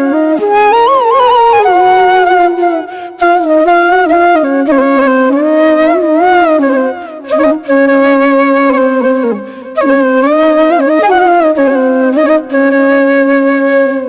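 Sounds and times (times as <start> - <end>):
solo flute melody: 0.0 - 14.0.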